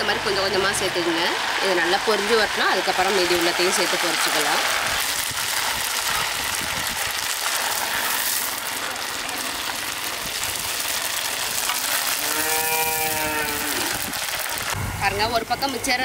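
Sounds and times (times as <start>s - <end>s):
dough sizzling in hot oil: 0.0s - 16.0s.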